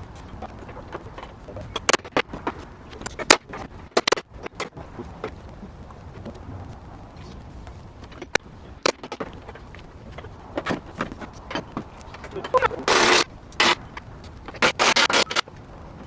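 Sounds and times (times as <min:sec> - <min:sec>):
low steady rumble: 0:00.0 - 0:14.6.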